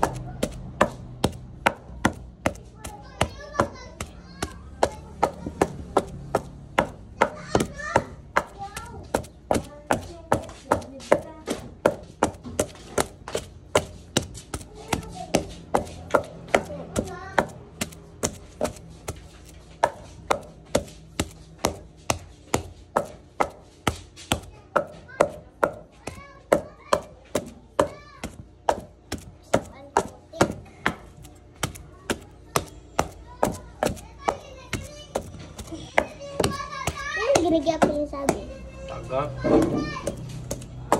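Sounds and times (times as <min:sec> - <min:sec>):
wooden pestle pounding in mortar: 0:00.0 - 0:38.7, 0:39.4 - 0:40.9.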